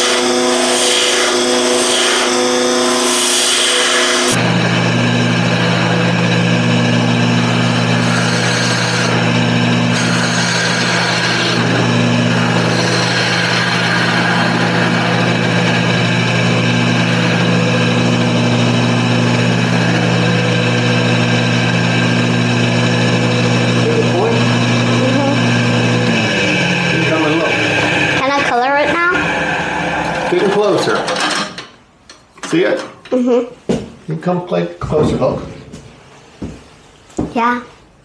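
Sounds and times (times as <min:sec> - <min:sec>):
wood lathe running: 0:00.0 - 0:31.7.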